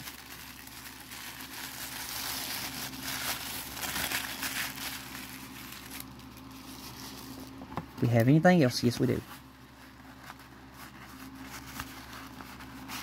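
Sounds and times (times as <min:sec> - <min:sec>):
tissue paper crinkling: 0:00.0 - 0:07.6, 0:09.2 - 0:13.0.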